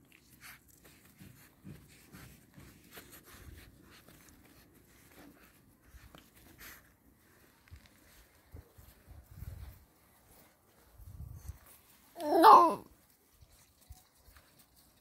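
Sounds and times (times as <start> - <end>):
puppy paws scratching on fabric: 0.0 - 15.0.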